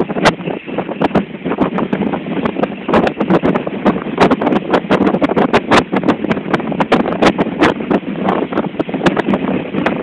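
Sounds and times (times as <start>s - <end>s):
wind blasting microphone: 0.0s - 10.0s
wind gust crackles: 0.0s - 10.0s.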